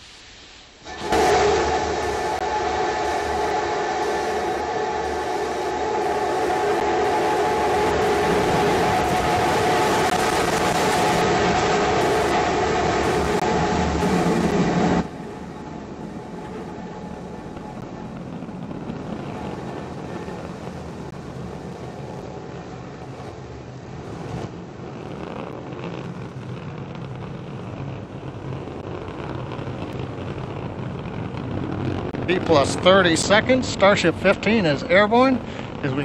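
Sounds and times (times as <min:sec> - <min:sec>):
rocket engines roaring: 0:00.8 - 0:36.0.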